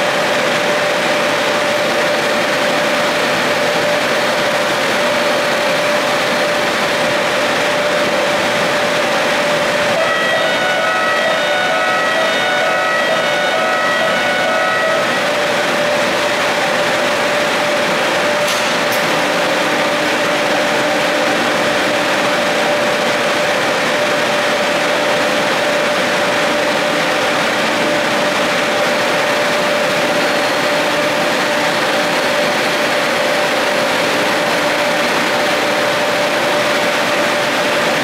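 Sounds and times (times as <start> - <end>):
machinery drone with whine: 0.0 - 38.0.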